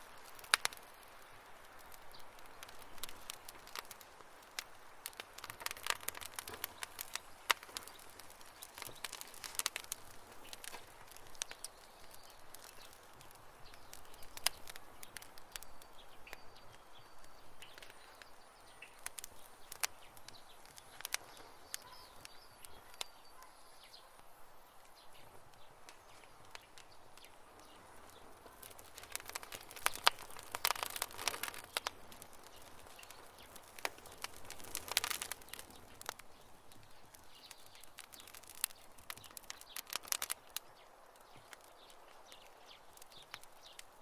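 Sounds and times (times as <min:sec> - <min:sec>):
soft hiss: 0:00.0 - 0:44.0
wood fire crackling and popping: 0:00.0 - 0:44.0.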